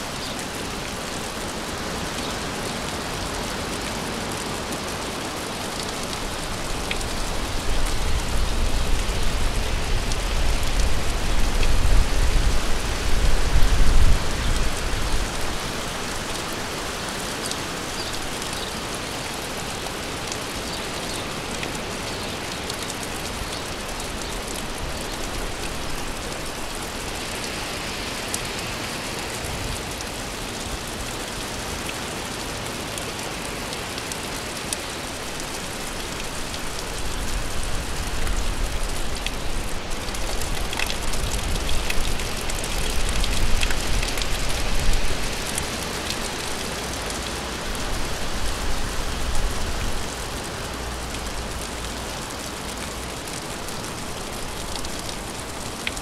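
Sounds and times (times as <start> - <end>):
gentle rain falling: 0.0 - 56.0.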